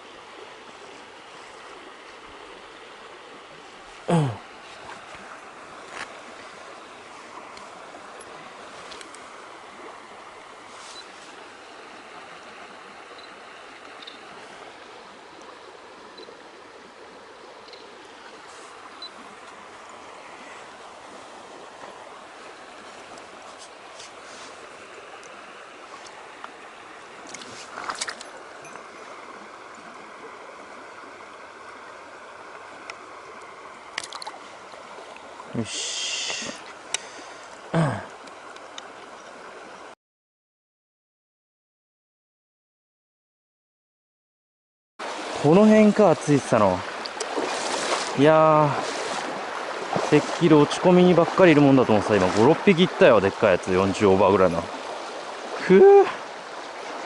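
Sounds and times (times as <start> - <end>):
stream water rushing: 0.0 - 40.0, 45.0 - 57.0.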